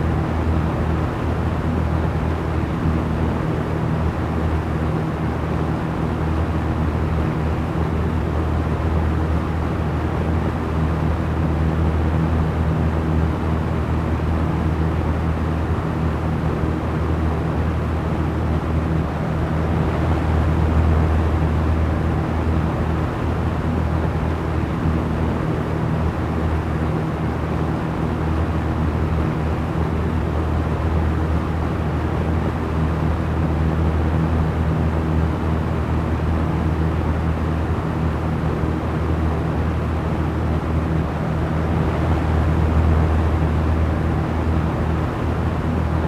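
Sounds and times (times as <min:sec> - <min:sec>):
electric fan running: 0:00.0 - 0:46.0.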